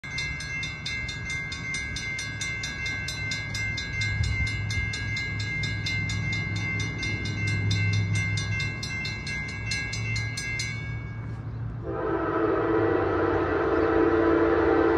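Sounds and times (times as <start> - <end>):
railroad crossing bell ringing: 0.0 - 14.9.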